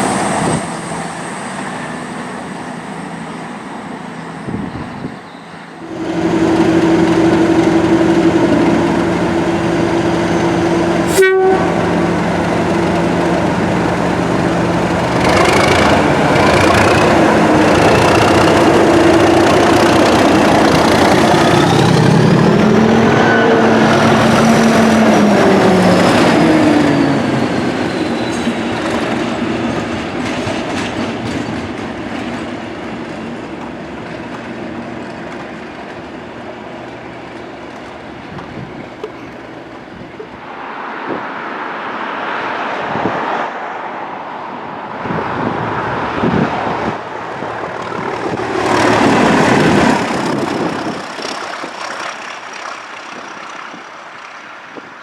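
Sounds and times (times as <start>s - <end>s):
train passing close by: 0.0s - 55.0s.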